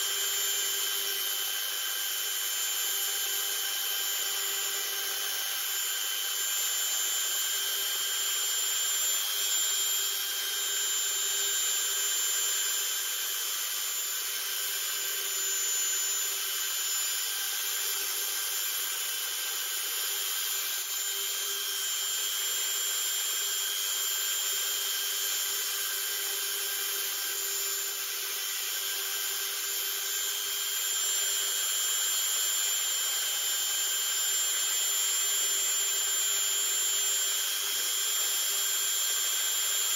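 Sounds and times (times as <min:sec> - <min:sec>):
rotary tool whining: 0:00.0 - 0:39.9.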